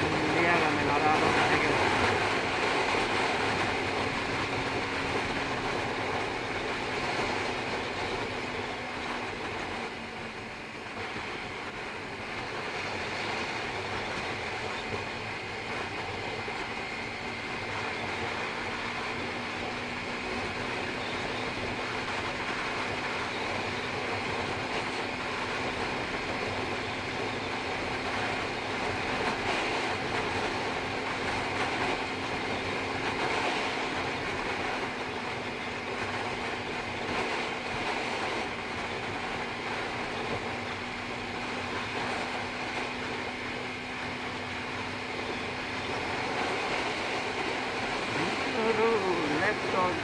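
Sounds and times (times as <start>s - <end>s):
motorcycle engine cruising: 0.0s - 50.0s
wind rushing on microphone: 0.0s - 50.0s.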